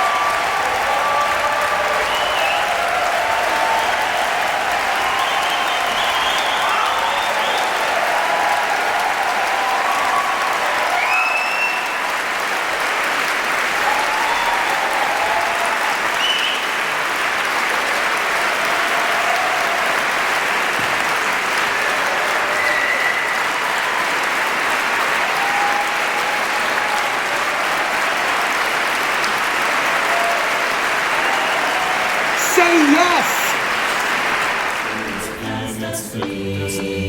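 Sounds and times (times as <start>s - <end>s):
audience applause: 0.0s - 35.5s.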